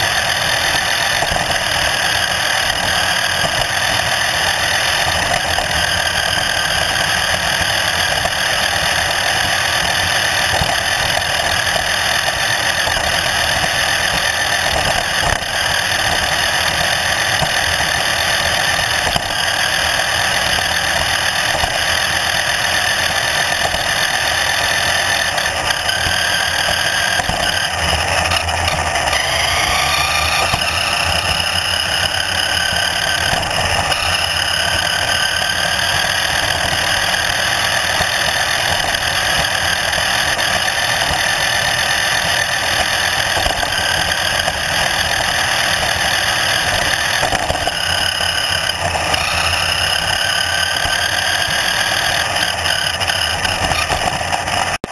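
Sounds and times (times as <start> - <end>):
engine running steadily: 0.0 - 54.9
engine whine rising in pitch: 0.0 - 54.9.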